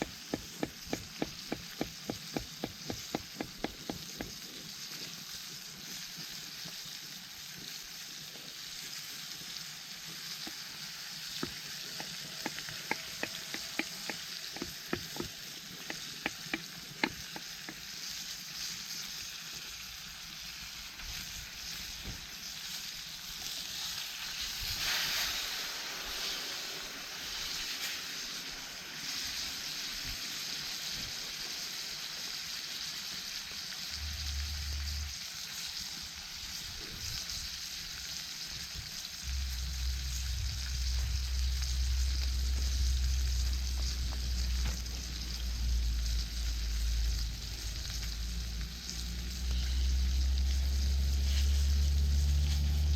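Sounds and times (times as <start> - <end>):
food sizzling in a pan: 0.0 - 52.9.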